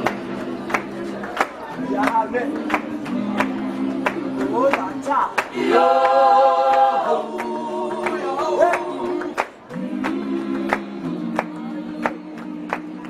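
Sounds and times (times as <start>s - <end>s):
group singing without instruments: 0.0s - 13.0s
sharp claps: 0.0s - 13.0s.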